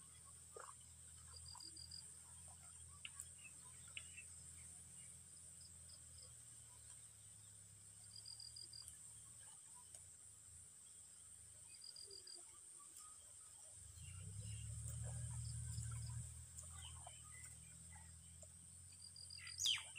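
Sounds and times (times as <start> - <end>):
faint ticks: 0.0 - 11.0, 11.6 - 19.6
insects droning: 0.0 - 19.9.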